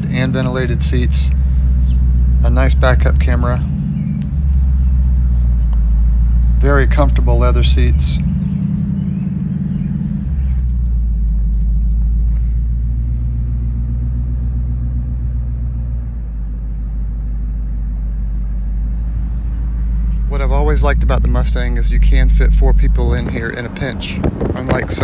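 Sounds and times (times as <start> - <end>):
car engine idling rumble: 0.0 - 25.0.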